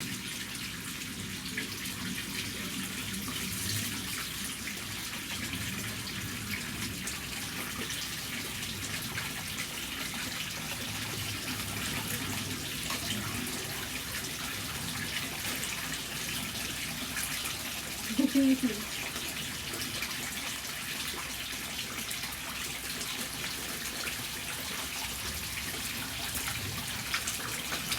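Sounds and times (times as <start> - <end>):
water drips and splashes: 0.0 - 27.9
water running into a bath: 0.0 - 27.9.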